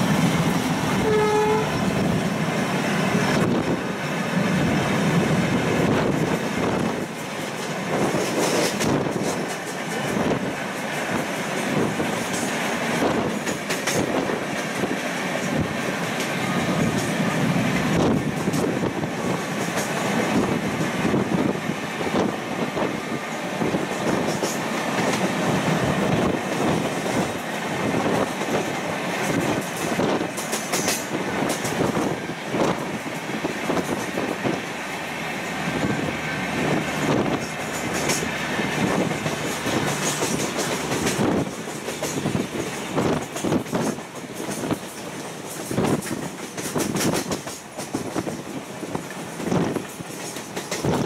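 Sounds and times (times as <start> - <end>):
train clicks and clatter: 0.0 - 51.0
train wheels rumbling on rails: 0.0 - 51.0.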